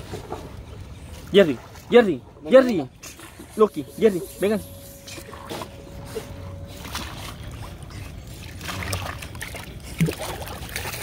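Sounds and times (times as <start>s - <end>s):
dog paddling in water: 0.0s - 11.0s
water splashing against boat: 0.0s - 11.0s.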